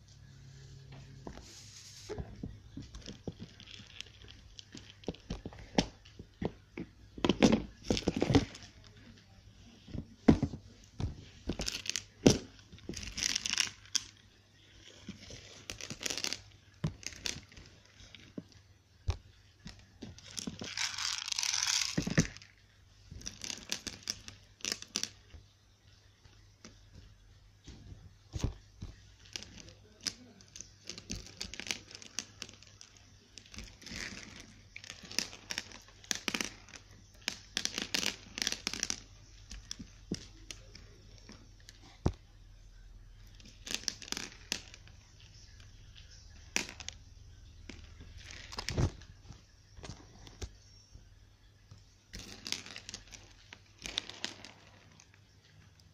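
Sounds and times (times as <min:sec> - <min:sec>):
slime squishing with sticky crackles: 0:01.4 - 0:55.9.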